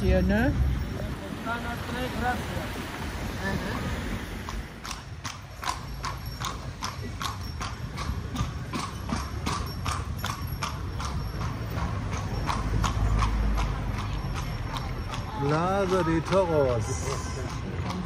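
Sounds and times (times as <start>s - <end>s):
horse hooves clip-clopping on pavement: 0.0s - 18.0s.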